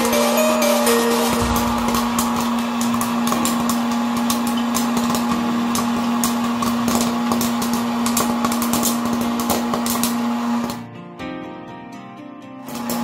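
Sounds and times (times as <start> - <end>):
popcorn machine motor hum: 0.0 - 10.8, 12.7 - 13.0.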